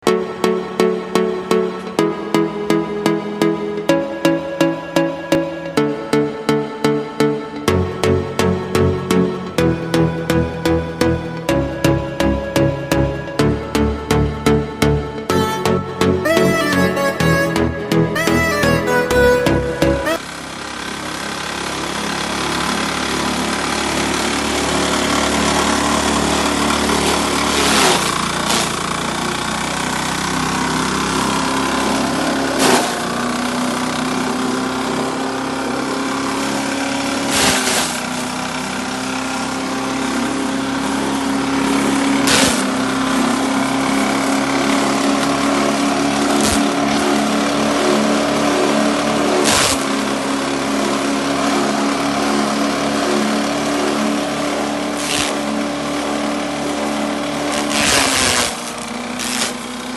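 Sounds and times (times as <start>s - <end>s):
feed chopper machine running: 0.0s - 59.9s.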